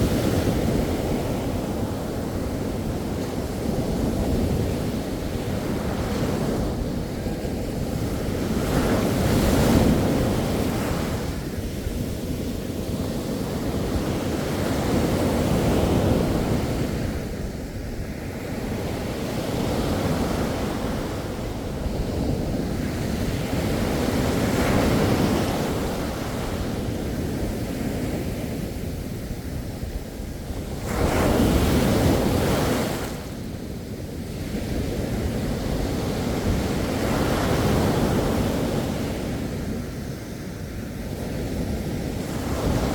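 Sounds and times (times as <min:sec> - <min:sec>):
sea waves breaking on shore: 0:00.0 - 0:42.9
wind buffeting microphone: 0:00.0 - 0:42.9.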